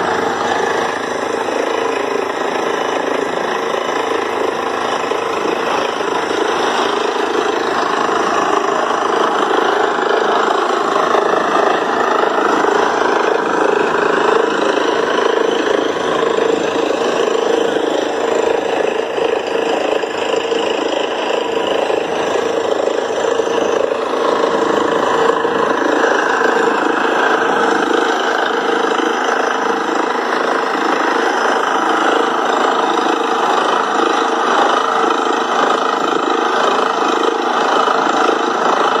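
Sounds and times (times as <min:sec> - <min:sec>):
air compressor running: 0:00.0 - 0:39.0
drilling rig running: 0:00.0 - 0:39.0.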